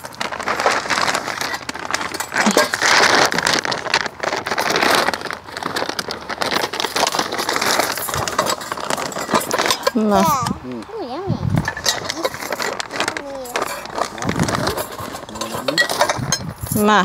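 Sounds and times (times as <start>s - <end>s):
food wrapping crinkling: 0.0s - 10.8s, 11.5s - 17.0s.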